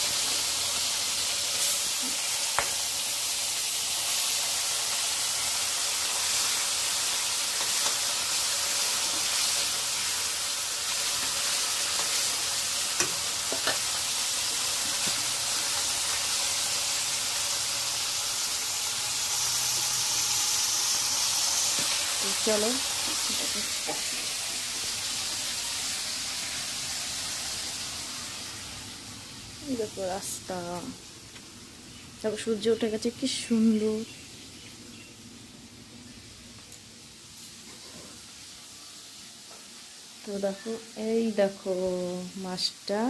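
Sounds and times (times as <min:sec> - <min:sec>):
fish sizzling in hot oil: 0:00.0 - 0:34.5, 0:36.8 - 0:43.0.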